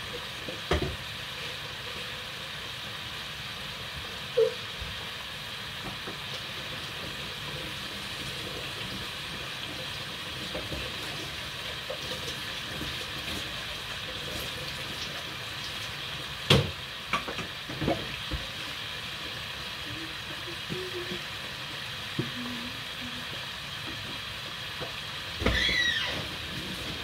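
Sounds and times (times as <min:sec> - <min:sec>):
food frying in hot oil: 0:00.0 - 0:27.0.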